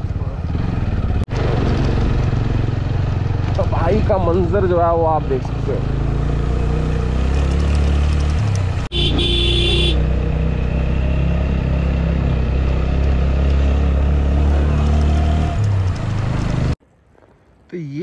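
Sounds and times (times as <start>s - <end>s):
motorcycle engine droning: 0.0s - 16.7s.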